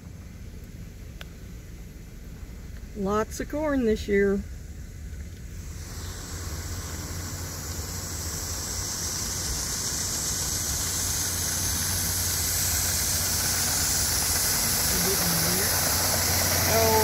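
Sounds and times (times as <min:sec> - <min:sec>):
car engine hum: 0:00.0 - 0:17.0
road noise hiss: 0:00.0 - 0:17.0.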